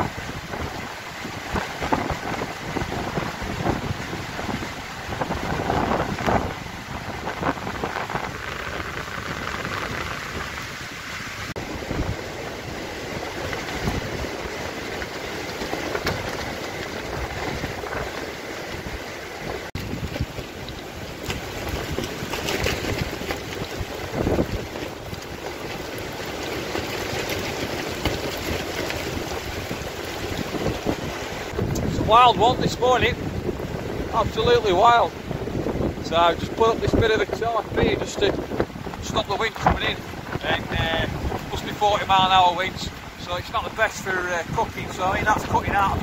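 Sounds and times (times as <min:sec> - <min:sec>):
strong wind through trees: 0:00.0 - 0:46.0
tarp flapping: 0:00.0 - 0:46.0.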